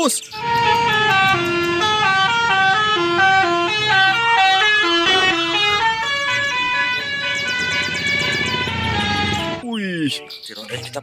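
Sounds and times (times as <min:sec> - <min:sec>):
musical multi-tone air horn: 0:00.4 - 0:09.6.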